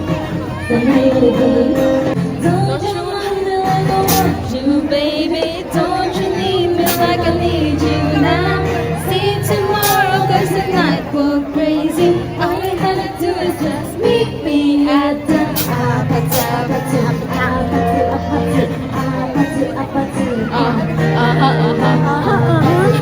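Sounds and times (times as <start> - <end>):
woman singing: 0.0 - 23.0.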